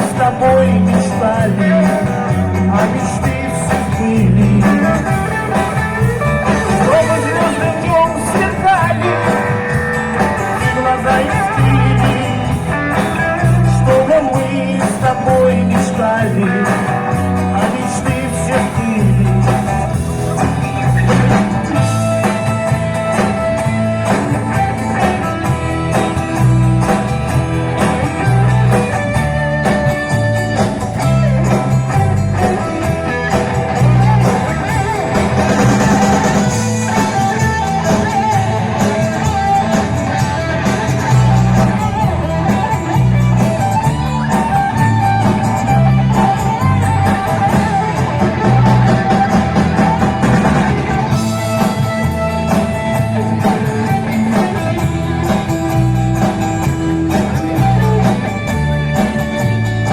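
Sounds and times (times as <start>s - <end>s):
pop-rock band playing: 0.0s - 59.9s.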